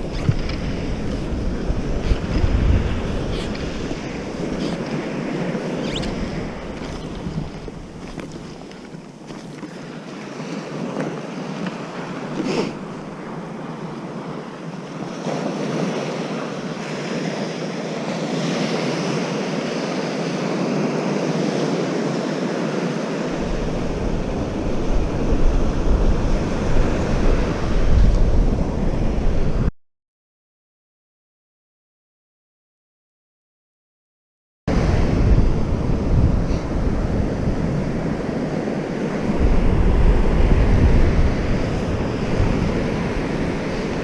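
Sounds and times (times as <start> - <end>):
ocean surf on a beach: 0.0 - 29.7, 34.7 - 44.0
wind rumble on microphone: 0.0 - 29.7, 34.7 - 44.0.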